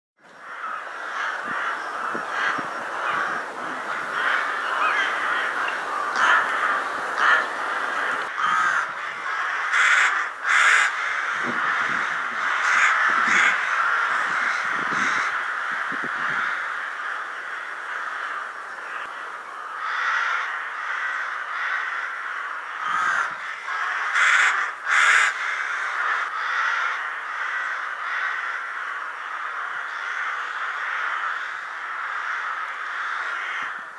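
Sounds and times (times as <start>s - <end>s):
flock of rooks cawing: 0.2s - 33.9s
close rook caws: 0.3s - 33.9s.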